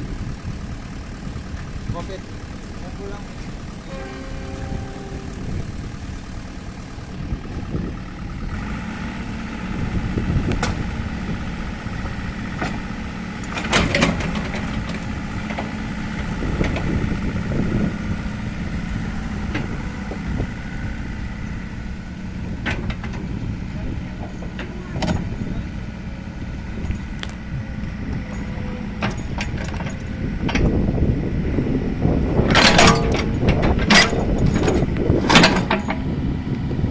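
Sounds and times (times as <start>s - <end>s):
excavator diesel engine: 0.0s - 36.9s.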